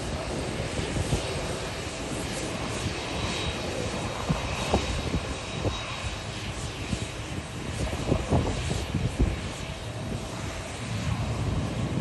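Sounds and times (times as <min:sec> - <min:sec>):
faint high jet whine: 0:00.0 - 0:12.0
jet engines rushing hum: 0:00.0 - 0:12.0.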